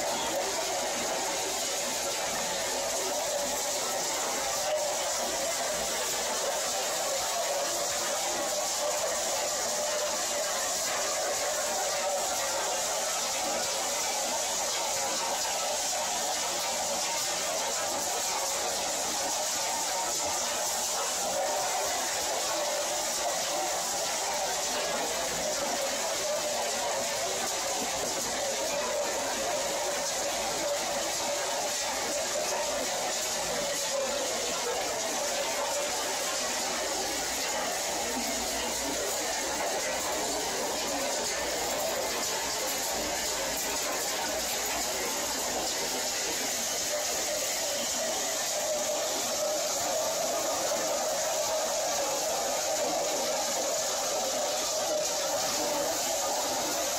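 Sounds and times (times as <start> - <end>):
conveyor belt running: 0.0 - 56.9
steady machinery noise: 0.0 - 56.9.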